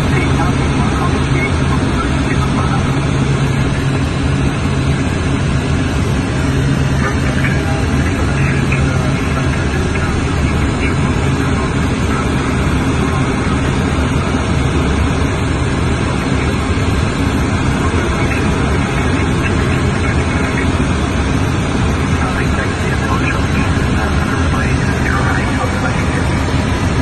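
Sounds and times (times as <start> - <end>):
airflow rushing over cockpit: 0.0 - 27.0
low jet engine drone: 0.0 - 27.0.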